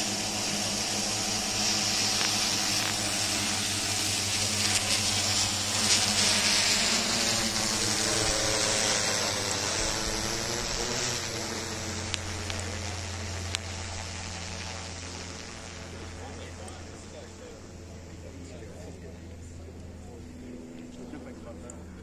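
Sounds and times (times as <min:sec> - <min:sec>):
drone propellers buzzing: 0:00.0 - 0:22.0.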